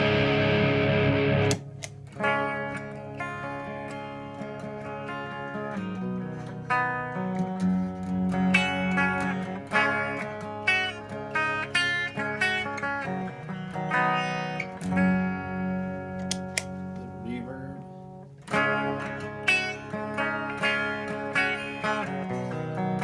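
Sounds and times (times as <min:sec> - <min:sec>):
electric guitar picking single notes: 0:00.0 - 0:23.0.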